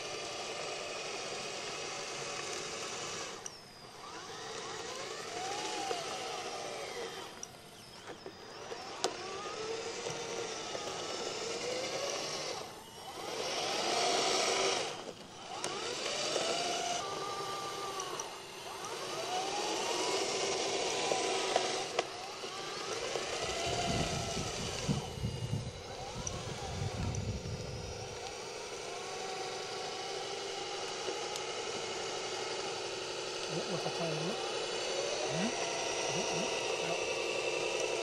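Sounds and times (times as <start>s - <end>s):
toy loader motors whining: 0.0s - 38.0s.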